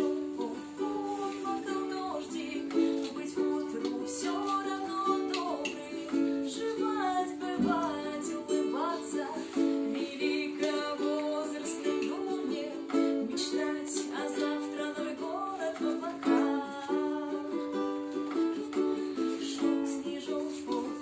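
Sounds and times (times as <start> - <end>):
person singing: 0.0 - 21.0
ukulele strumming chords: 0.0 - 21.0.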